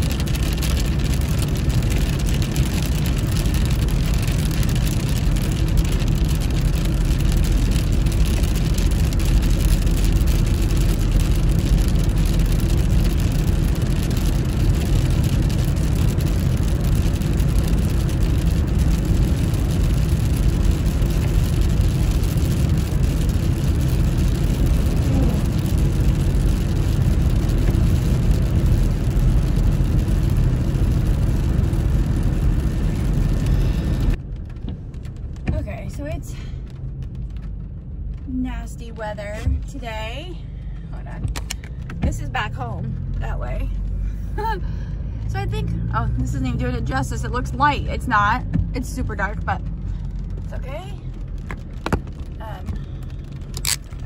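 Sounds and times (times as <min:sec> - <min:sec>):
car road noise on wet road: 0:00.0 - 0:54.0.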